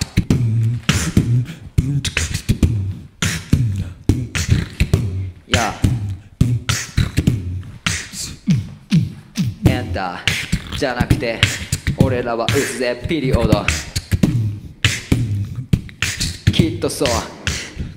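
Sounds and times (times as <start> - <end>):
person beatboxing into a microphone: 0.0 - 17.9.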